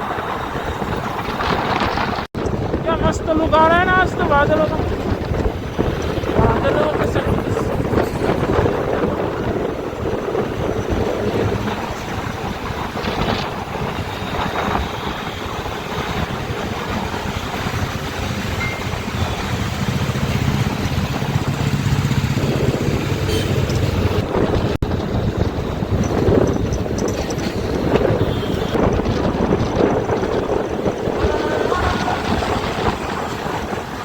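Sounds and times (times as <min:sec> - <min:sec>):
motorcycle engine hum: 0:00.0 - 0:34.0
road noise: 0:00.0 - 0:34.0
wind rushing over microphone: 0:00.0 - 0:34.0.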